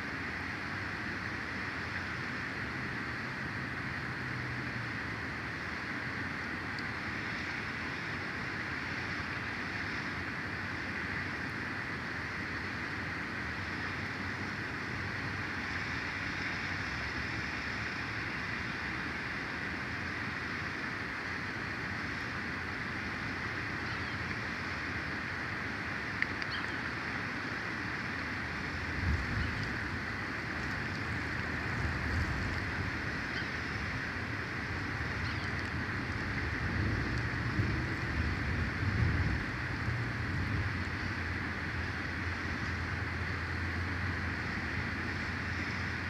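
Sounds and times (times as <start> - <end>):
wind hissing on microphone: 0.0 - 46.0.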